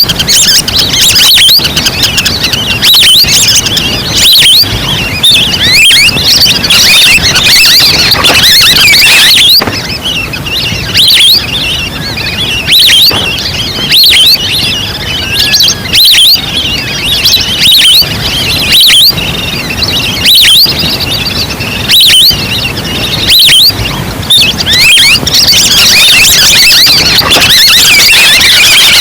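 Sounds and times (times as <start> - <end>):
ducks whistling calls: 0.0 - 29.0.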